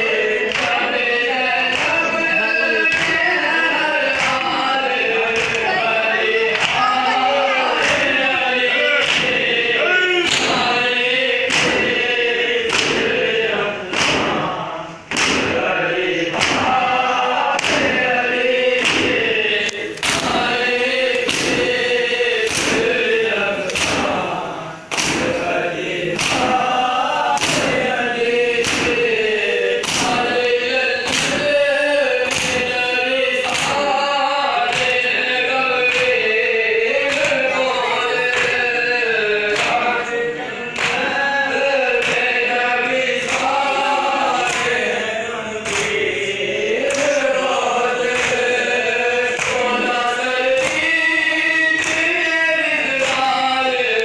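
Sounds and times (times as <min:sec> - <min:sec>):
men chanting in unison: 0:00.0 - 0:54.0
rhythmic chest-beating thumps: 0:00.0 - 0:54.0.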